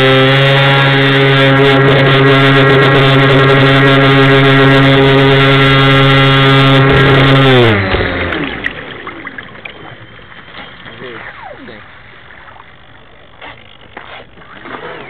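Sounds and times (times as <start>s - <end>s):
electric boat motor whining: 0.0s - 15.0s
water noise: 0.0s - 15.0s.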